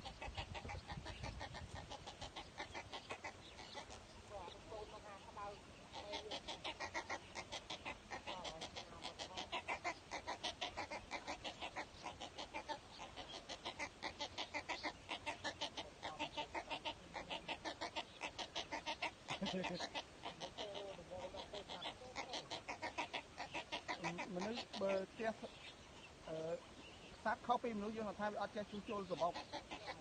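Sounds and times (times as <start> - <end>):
nestlings chattering calls: 0.0 - 30.0.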